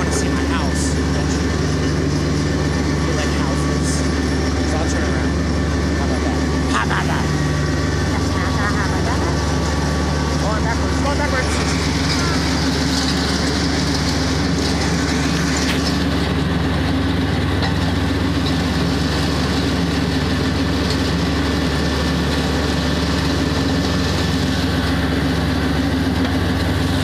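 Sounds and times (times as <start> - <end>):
riding mower engine running: 0.0 - 27.0.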